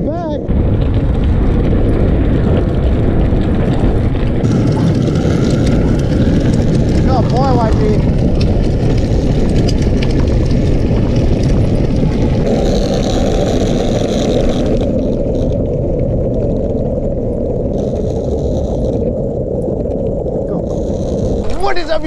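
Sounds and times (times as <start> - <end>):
wind buffeting microphone: 0.0 - 22.0
small wheels rolling on asphalt: 0.1 - 22.0.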